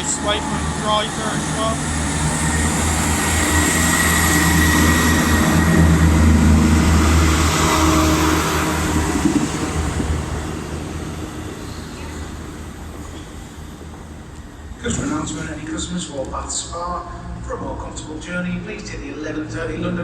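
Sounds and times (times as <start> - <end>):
diesel train engines droning: 0.0 - 20.0.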